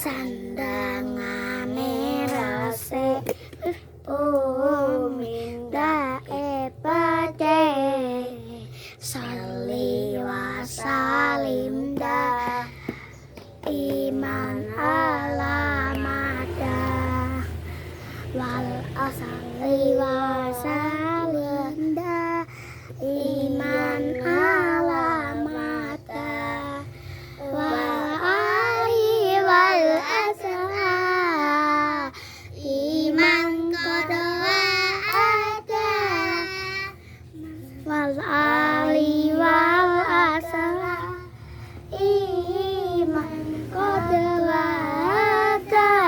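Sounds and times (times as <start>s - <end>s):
child singing devotional song: 0.0s - 46.0s.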